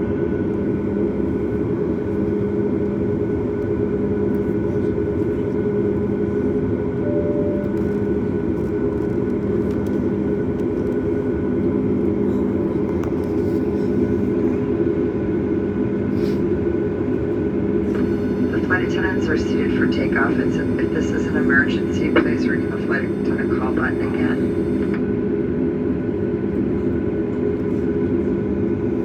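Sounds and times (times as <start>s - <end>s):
aircraft engine hum: 0.0s - 29.0s.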